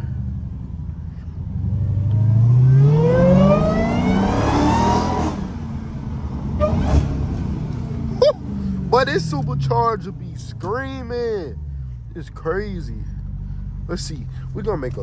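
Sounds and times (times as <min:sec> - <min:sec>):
car engine accelerating: 0:00.0 - 0:15.0
supercharger whine: 0:00.0 - 0:15.0.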